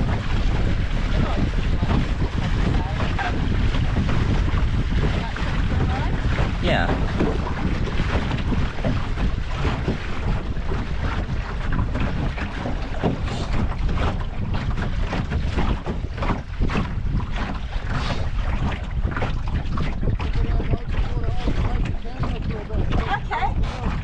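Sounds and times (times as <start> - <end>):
water splashing against hull: 0.0 - 24.0
wind buffeting microphone: 0.0 - 24.0.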